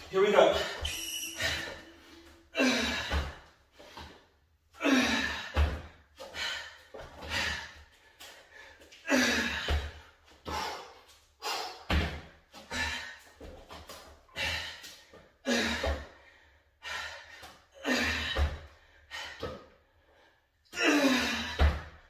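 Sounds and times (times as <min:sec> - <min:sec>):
man breathing hard: 0:00.4 - 0:13.4, 0:14.3 - 0:22.0.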